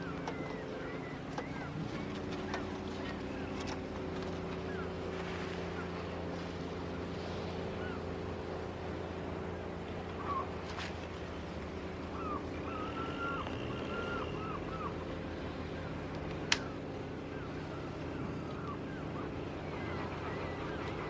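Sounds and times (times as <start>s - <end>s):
birds chirping: 0.0s - 21.0s
engine humming: 0.0s - 21.0s.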